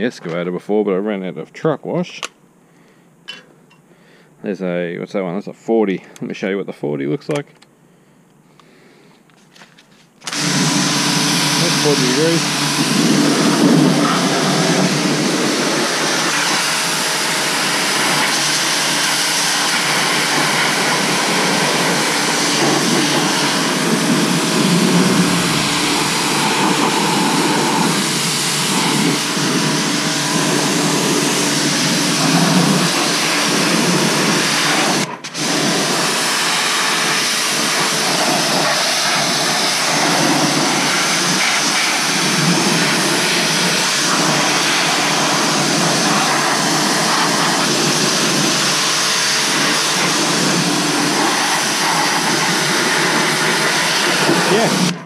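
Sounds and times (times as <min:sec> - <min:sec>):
pump humming: 0:10.2 - 0:55.0
pressure washer spray hissing: 0:10.3 - 0:55.0.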